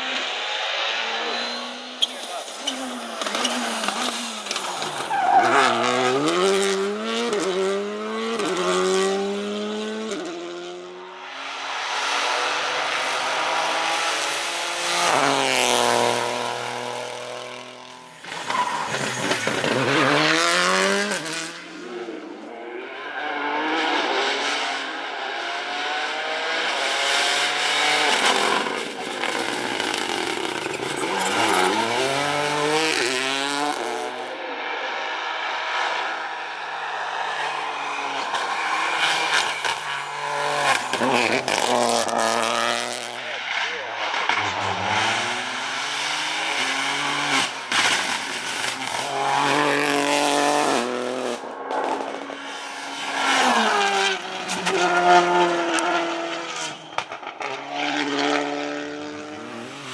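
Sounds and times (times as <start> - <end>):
rally cars passing at speed: 0.0 - 59.9.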